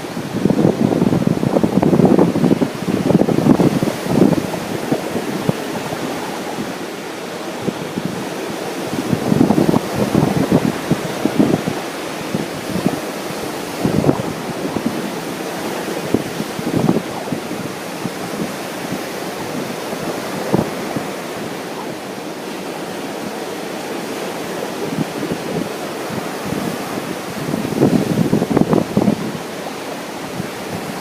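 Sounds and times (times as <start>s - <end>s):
ocean surf washing: 0.0s - 31.0s
wind buffeting microphone: 0.0s - 31.0s.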